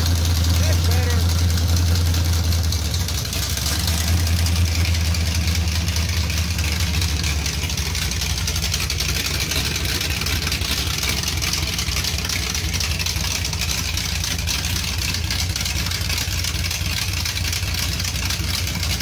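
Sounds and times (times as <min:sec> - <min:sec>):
engine running with open headers: 0:00.0 - 0:19.0.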